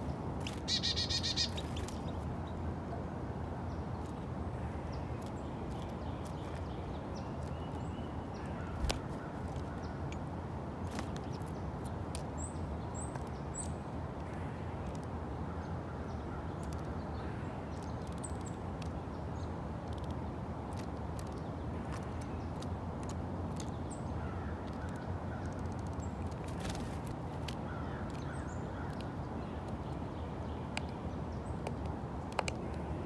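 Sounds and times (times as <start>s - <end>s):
low background noise: 0.0s - 33.0s
small birds chirping: 0.0s - 33.0s
beaks pecking seed on log: 0.4s - 2.3s, 5.0s - 10.2s, 10.8s - 15.2s, 16.4s - 17.0s, 17.7s - 33.0s.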